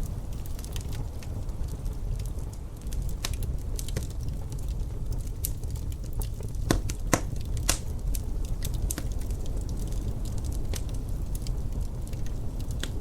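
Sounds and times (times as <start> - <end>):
low rumble of wind: 0.0 - 13.0
wood fire crackling and popping: 0.0 - 13.0.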